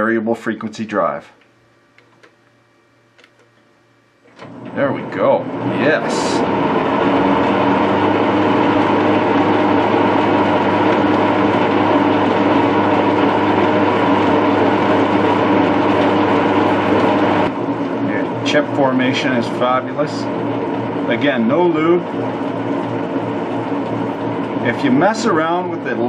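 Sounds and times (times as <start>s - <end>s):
metal lathe humming and whining: 4.3s - 26.0s.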